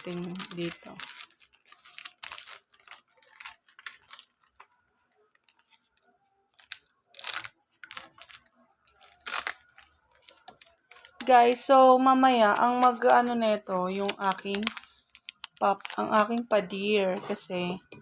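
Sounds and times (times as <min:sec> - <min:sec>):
packet ripping: 0:00.0 - 0:16.5
packet crinkling: 0:00.0 - 0:18.0.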